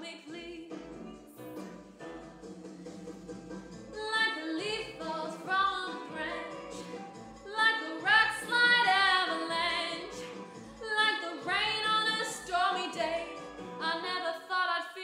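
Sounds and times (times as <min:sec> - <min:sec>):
woman singing: 0:00.0 - 0:01.2, 0:04.0 - 0:15.0
instrumental accompaniment: 0:00.3 - 0:14.2.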